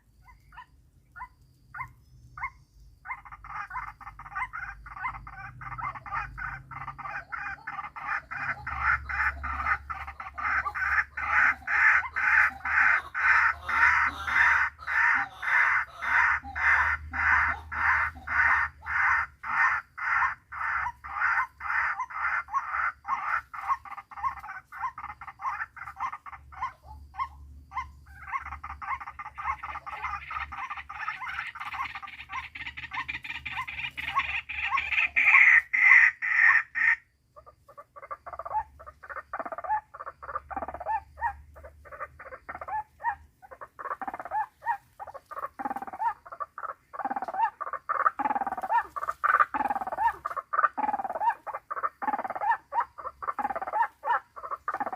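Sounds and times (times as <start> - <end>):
waterhen croaking calls: 0.0 - 54.9.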